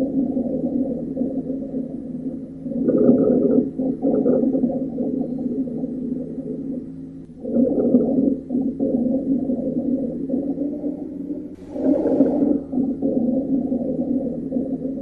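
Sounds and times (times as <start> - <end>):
rhonchi breath sounds: 0.4 - 15.0.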